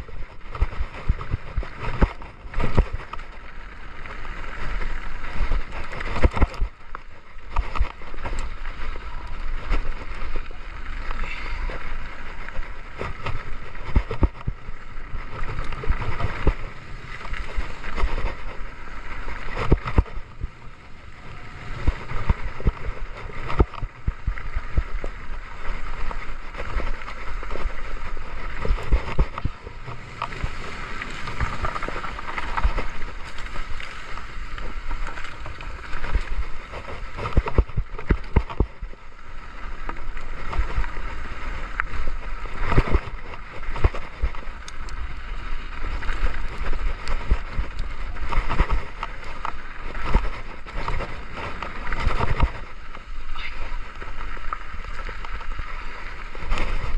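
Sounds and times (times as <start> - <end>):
bike tyres rumbling: 0.0 - 56.9
wind noise on microphone: 0.0 - 56.9.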